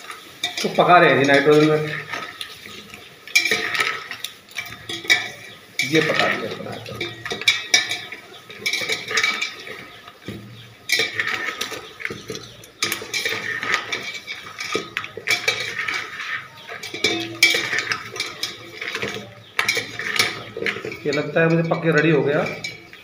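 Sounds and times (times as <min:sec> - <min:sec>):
wire skimmer scraping steel bowl: 0:00.0 - 0:23.0.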